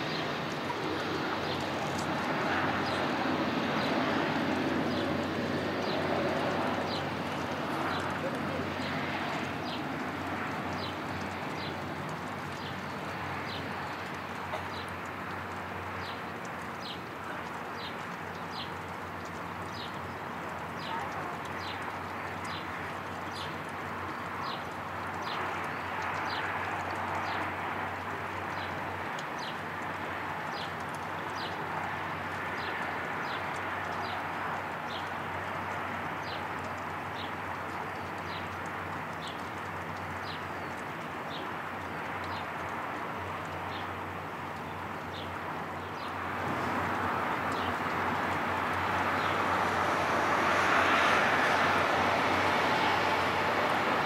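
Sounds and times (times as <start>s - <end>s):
distant jet engine rush: 0.0s - 38.3s, 38.9s - 54.0s.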